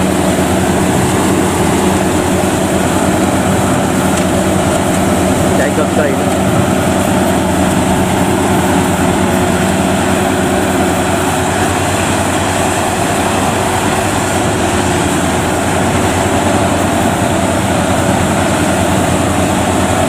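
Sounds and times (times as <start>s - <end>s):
combine harvester drone: 0.0s - 20.0s.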